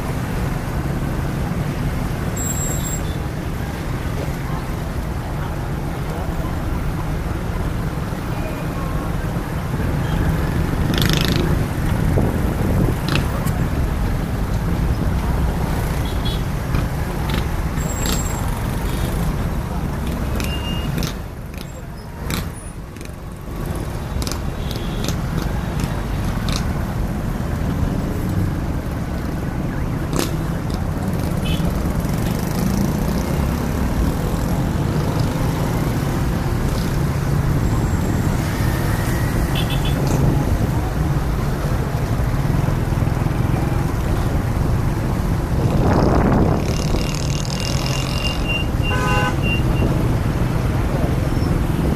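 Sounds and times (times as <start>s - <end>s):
rumble of passing traffic: 0.0s - 51.9s.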